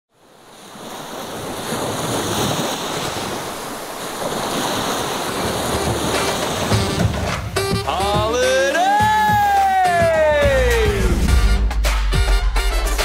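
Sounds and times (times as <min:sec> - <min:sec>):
ocean waves breaking on beach: 0:00.1 - 0:10.9.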